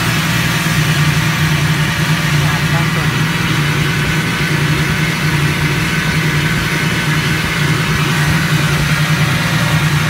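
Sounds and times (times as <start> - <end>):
compressor humming: 0.0 - 10.0.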